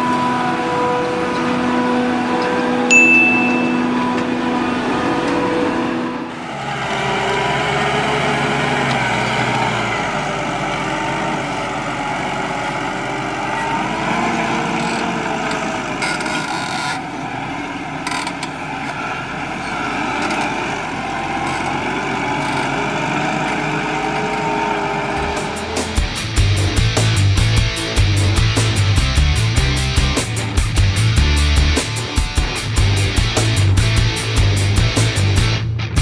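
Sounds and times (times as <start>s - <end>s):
diesel farm machinery running: 0.0s - 36.0s.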